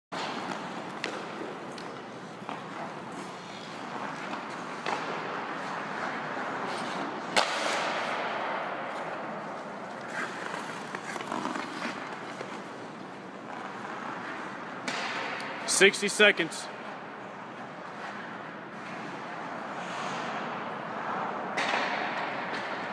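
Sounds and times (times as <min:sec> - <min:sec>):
skates scraping on ice: 0:00.2 - 0:22.9.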